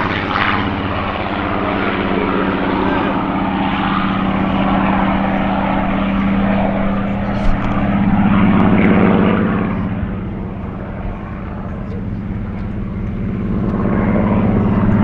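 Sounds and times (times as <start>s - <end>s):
propeller plane engine overhead: 0.0s - 15.0s.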